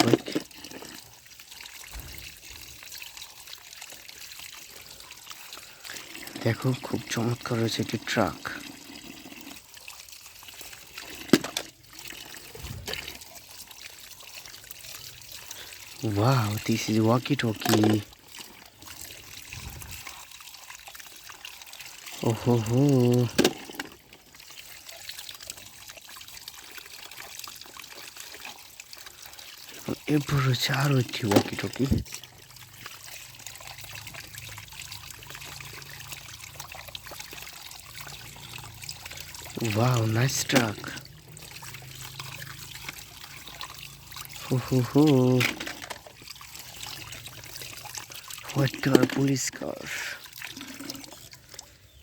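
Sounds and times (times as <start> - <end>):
water pouring and trickling: 0.0 - 52.0.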